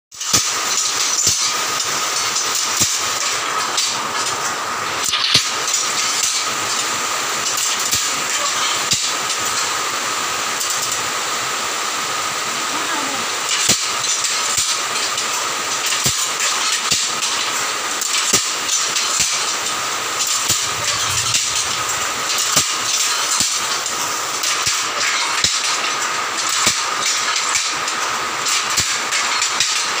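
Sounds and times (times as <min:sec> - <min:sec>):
steady high hiss: 0:00.2 - 0:29.1.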